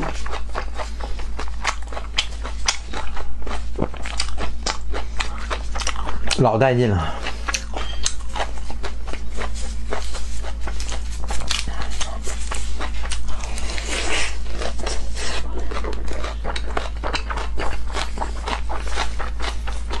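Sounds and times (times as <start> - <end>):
steady low hum: 0.0 - 20.0
wet chewing and smacking: 0.0 - 20.0.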